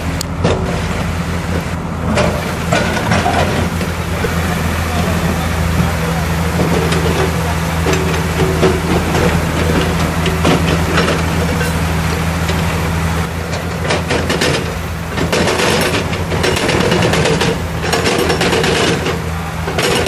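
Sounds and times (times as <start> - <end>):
heavy diesel engine running: 0.0 - 20.0
machine knocks and clanks: 0.3 - 4.4, 5.7 - 20.0.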